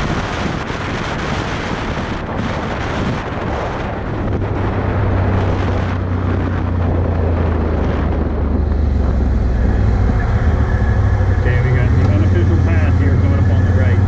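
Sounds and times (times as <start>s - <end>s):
engine running: 0.0s - 14.0s
wind buffeting microphone: 0.0s - 14.0s.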